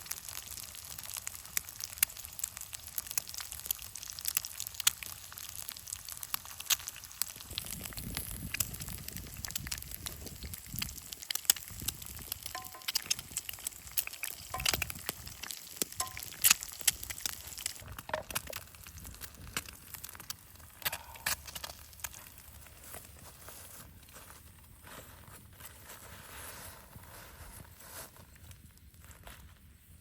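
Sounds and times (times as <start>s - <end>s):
campfire crackling and popping: 0.0s - 26.1s.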